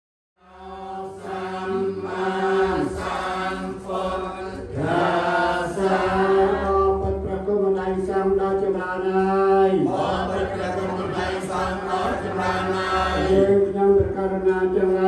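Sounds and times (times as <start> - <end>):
men chanting low: 0.4 - 15.0.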